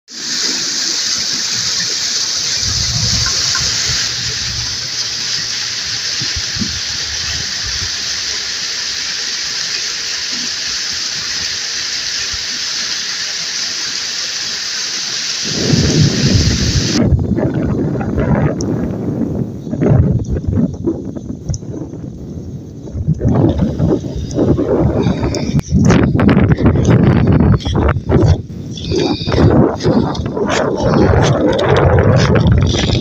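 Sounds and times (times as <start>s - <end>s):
stream rushing over rocks: 0.1s - 18.7s, 23.1s - 33.0s
wind rumbling on microphone: 0.3s - 12.9s, 15.4s - 33.0s.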